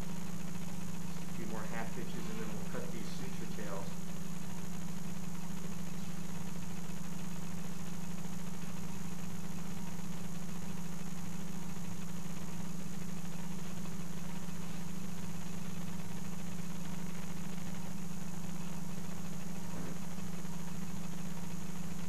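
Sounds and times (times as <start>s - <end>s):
operating room equipment humming: 0.0s - 22.0s.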